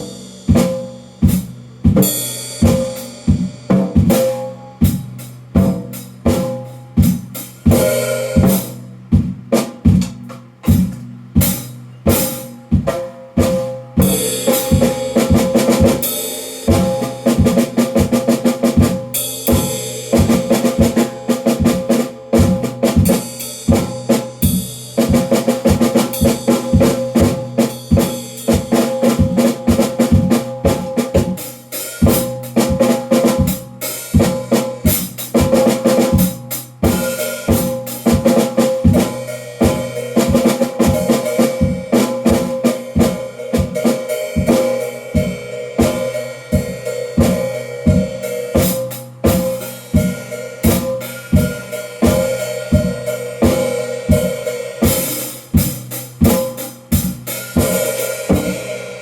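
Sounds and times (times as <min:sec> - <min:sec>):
drum kit groove: 0:00.0 - 0:59.0.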